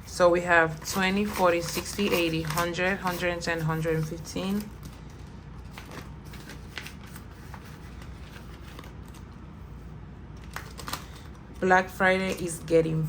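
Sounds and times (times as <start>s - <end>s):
banknotes rustling: 0.0s - 13.0s.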